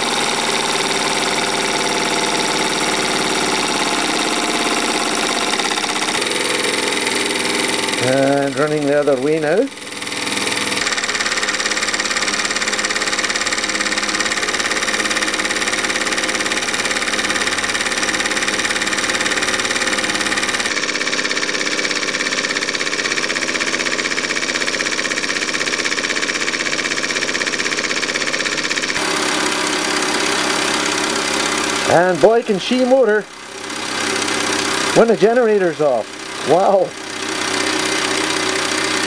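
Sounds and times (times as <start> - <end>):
toy steam engine running: 0.0 - 39.0.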